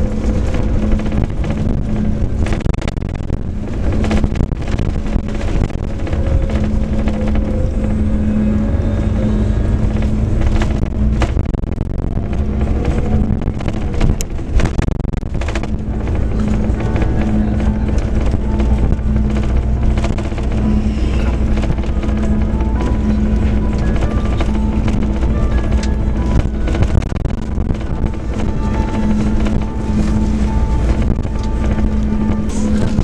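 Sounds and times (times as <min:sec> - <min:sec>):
bus engine drone: 0:00.0 - 0:33.0
road rumble: 0:00.0 - 0:33.0.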